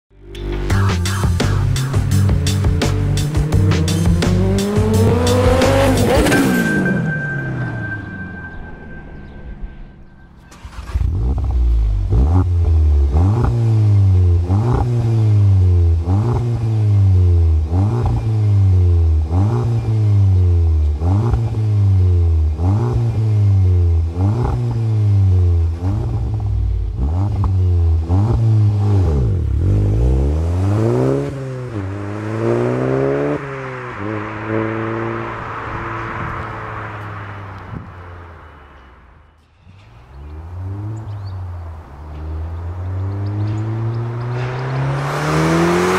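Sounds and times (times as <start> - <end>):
car engine revving: 0.4 - 45.9.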